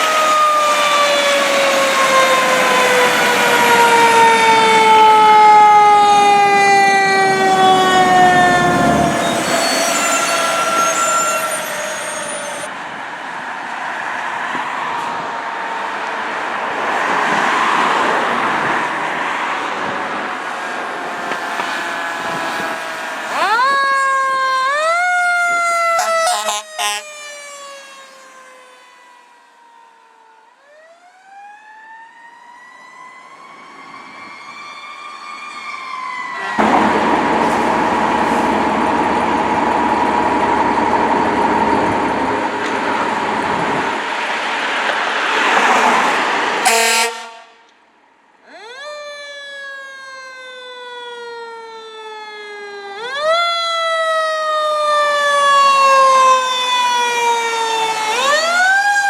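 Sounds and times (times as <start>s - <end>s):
fire truck siren: 0.0s - 47.8s, 48.4s - 59.0s
passing traffic: 0.0s - 59.0s.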